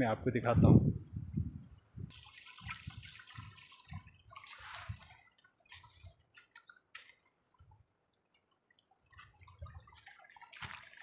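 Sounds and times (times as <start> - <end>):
water trickling and dripping: 1.3 - 11.0.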